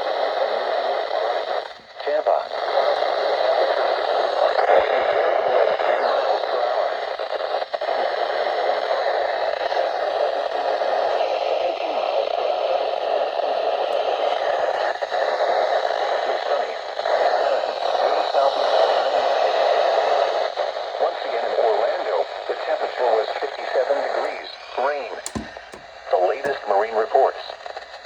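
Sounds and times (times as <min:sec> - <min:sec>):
radio static and hiss: 0:00.0 - 0:28.0.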